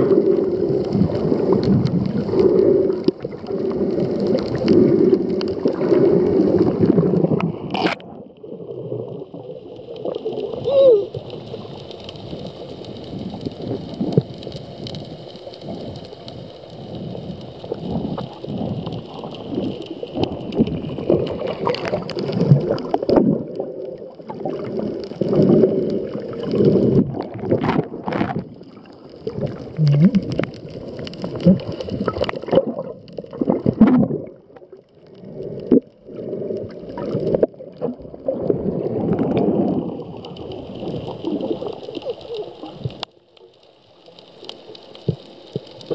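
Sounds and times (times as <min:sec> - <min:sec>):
underwater gurgling and sloshing: 0:00.0 - 0:45.9.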